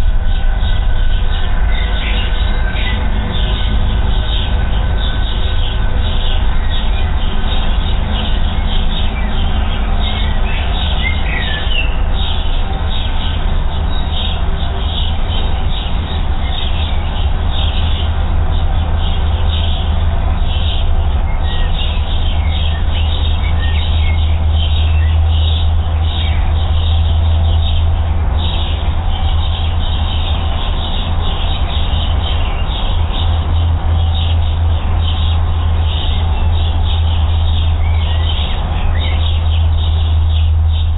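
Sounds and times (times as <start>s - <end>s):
loud low rumble: 0.0s - 40.9s
songbirds chirping: 0.0s - 40.9s.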